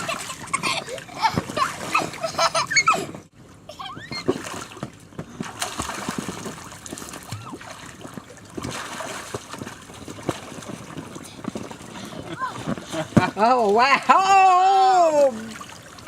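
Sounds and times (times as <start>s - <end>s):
water splashing in pool: 0.0s - 3.1s, 4.0s - 16.0s.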